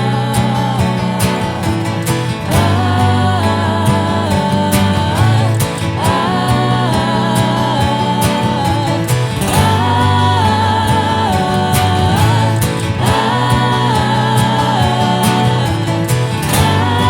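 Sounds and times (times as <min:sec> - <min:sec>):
person singing wordless melody: 0:00.0 - 0:17.0
strummed acoustic guitar: 0:00.0 - 0:17.0.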